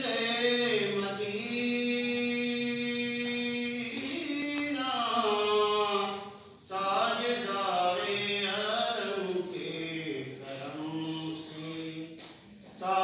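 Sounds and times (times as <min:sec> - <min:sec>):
man singing melodically: 0:00.0 - 0:12.2, 0:12.8 - 0:13.0.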